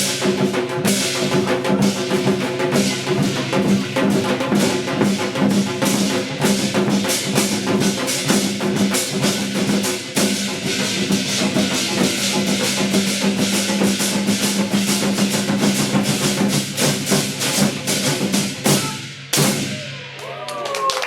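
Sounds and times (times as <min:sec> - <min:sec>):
fast dense drumming: 0:00.0 - 0:20.2.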